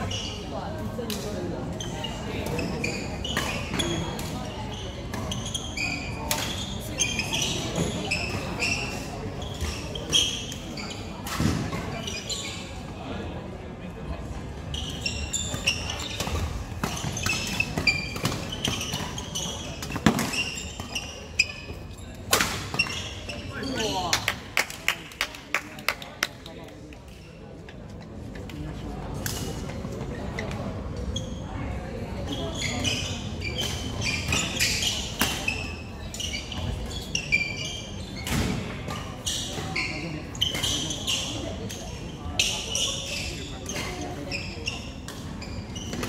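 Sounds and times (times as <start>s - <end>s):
shoes squeaking on hall floor: 0.0s - 13.4s, 14.3s - 24.3s, 27.1s - 46.0s.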